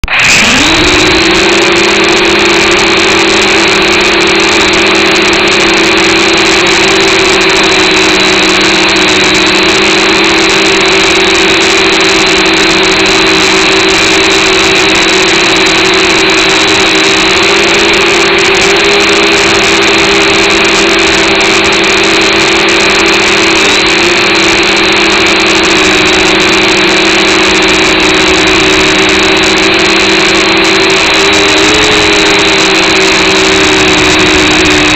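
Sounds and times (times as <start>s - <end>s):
drone propellers whirring: 0.0s - 34.9s.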